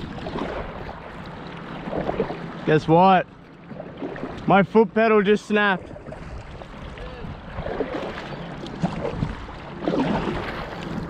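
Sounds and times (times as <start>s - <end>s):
hand paddling through water: 0.0s - 11.0s
water sloshing around kayak: 0.0s - 11.0s.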